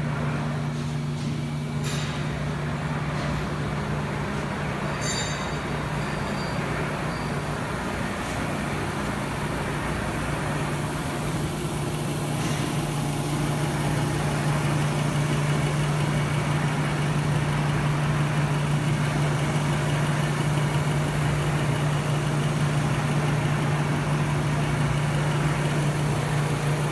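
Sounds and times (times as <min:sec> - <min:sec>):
machining center running: 0:00.0 - 0:26.9.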